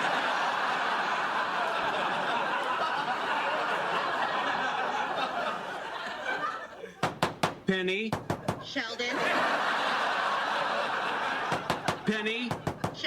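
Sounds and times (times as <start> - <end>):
studio audience laughing: 0.0 - 7.0, 8.4 - 13.0.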